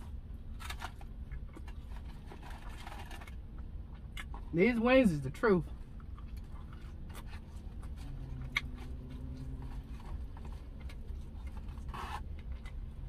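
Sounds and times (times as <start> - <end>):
soft chewing: 0.0 - 4.6, 5.6 - 13.0
low hum: 0.0 - 13.0
steady low rumble: 0.0 - 13.0.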